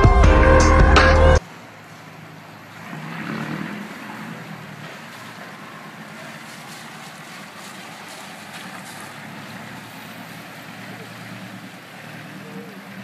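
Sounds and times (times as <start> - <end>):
moving vehicle running noise: 0.0 - 13.0.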